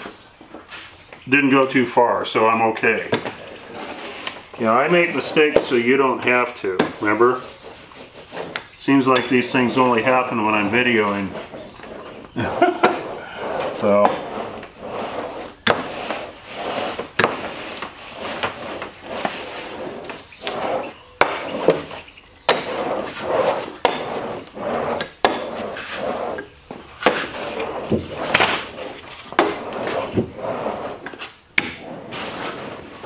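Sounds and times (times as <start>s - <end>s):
rolling pin rubbing over laminate: 0.0s - 33.0s.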